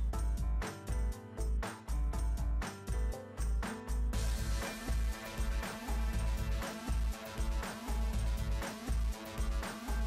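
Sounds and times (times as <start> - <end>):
music with bass and drums: 0.0 - 10.0.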